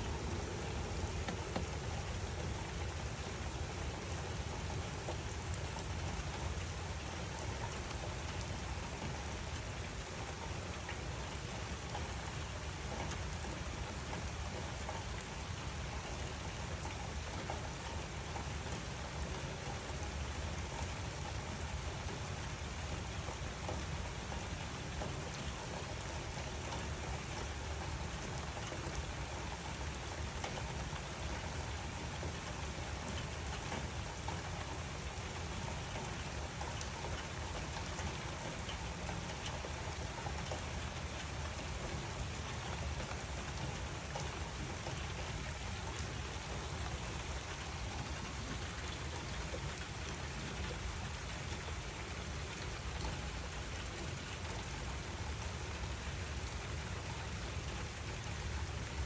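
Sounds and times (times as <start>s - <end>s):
raindrops pattering on surface: 0.0s - 59.0s
steady rain hiss: 0.0s - 59.0s.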